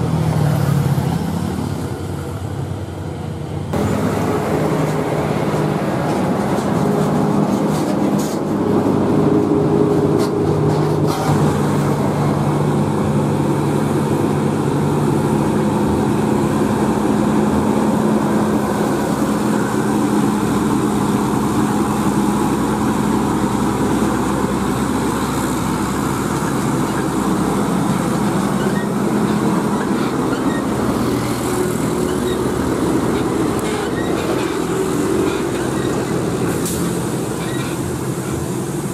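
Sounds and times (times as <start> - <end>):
truck diesel engine passing: 0.0 - 38.9.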